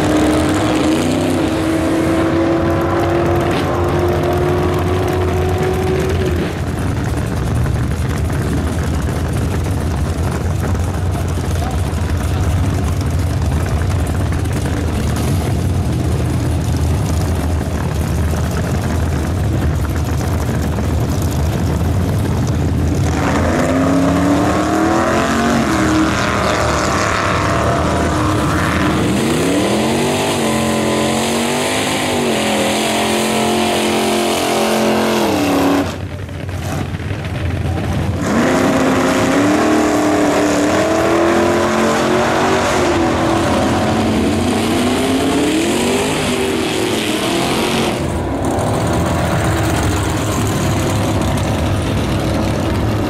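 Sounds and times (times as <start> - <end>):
drag car engines accelerating: 0.0 - 53.0
engine revving: 0.0 - 53.0.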